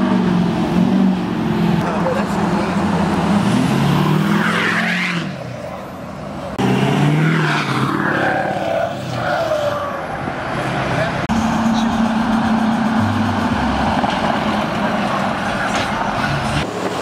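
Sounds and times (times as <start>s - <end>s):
pickup trucks driving past revving: 0.0s - 5.6s, 6.2s - 17.0s.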